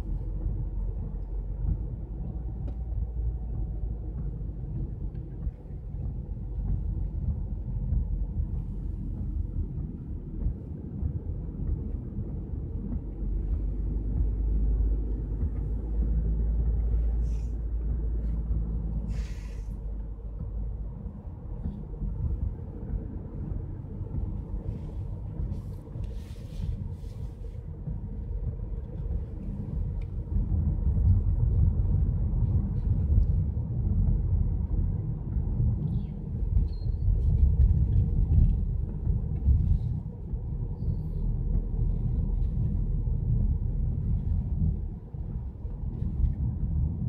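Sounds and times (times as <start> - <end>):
road rumble inside car: 0.0 - 47.0.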